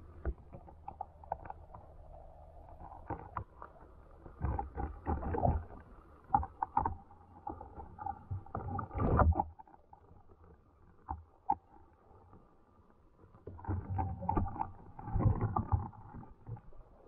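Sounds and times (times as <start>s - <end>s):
underwater clicks and knocks: 0.0s - 12.4s, 13.4s - 17.0s
rumble of moving water: 0.0s - 17.0s.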